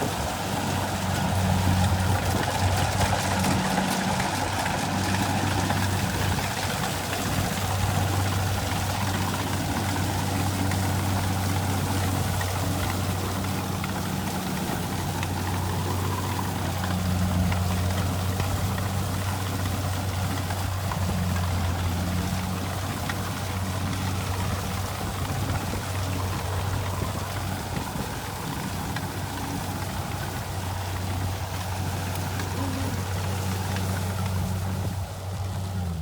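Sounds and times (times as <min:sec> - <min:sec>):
diesel engine humming: 0:00.0 - 0:36.0.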